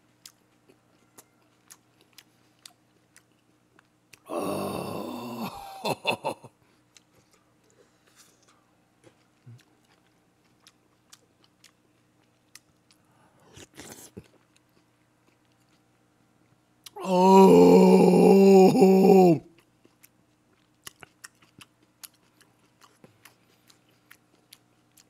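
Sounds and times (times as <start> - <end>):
person chewing food: 0.0 - 5.4, 6.6 - 16.0, 19.0 - 25.0.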